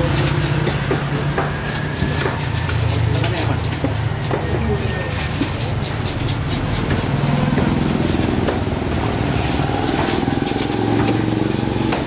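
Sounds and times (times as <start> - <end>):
plastic bag crinkling: 1.8 - 11.7.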